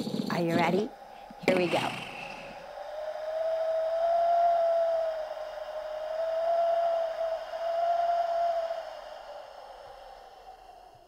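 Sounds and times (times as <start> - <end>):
howling wind whistling: 0.0 - 11.0.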